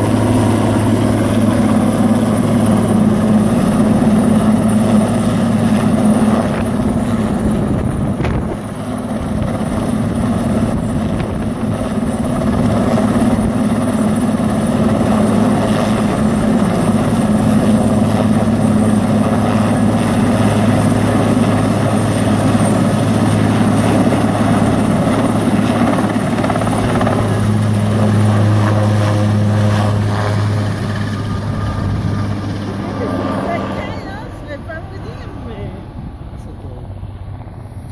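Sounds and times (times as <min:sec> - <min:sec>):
helicopter hovering: 0:00.0 - 0:37.9.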